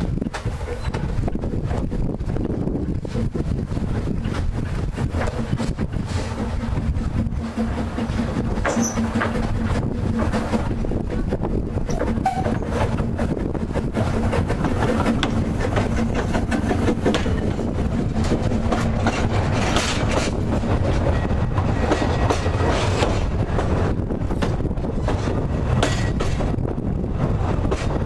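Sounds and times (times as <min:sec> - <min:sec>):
steam train running past: 0:00.0 - 0:28.0
wheels clicking over rail joints: 0:00.0 - 0:28.0.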